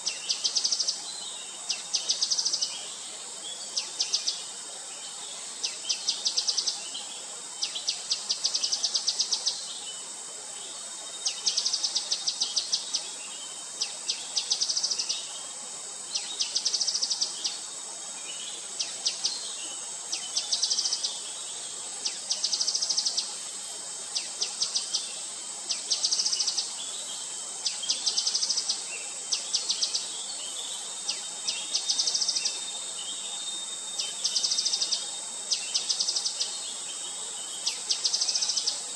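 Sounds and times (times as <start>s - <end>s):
high-pitched background hiss: 0.0s - 38.9s.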